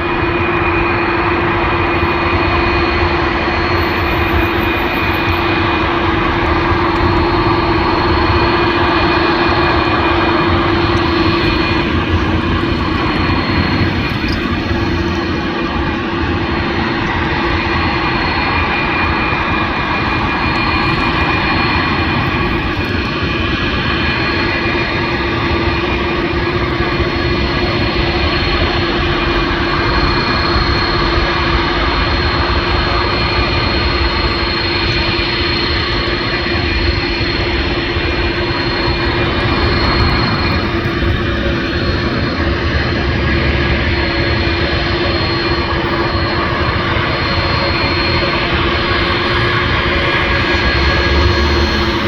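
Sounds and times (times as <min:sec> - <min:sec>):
jet engines roaring: 0:00.0 - 0:52.0.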